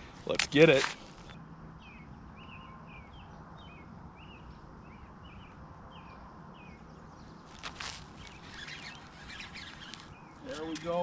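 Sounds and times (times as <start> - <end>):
outdoor background noise: 0.0 - 11.0
songbird chirping: 0.0 - 11.0.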